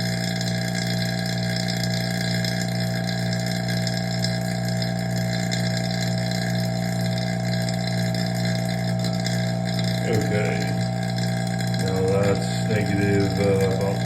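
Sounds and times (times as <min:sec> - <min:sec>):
vacuum pump droning: 0:00.0 - 0:14.0.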